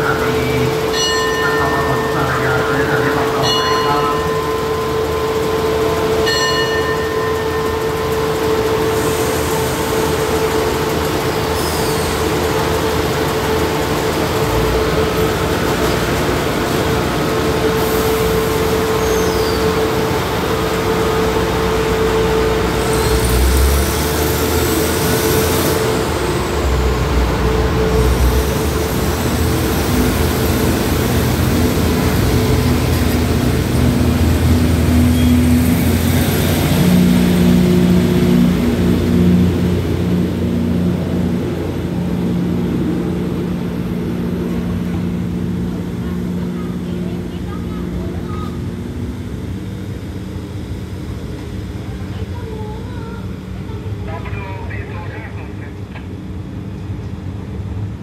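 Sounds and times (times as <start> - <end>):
diesel train engine idling: 0.0 - 58.0.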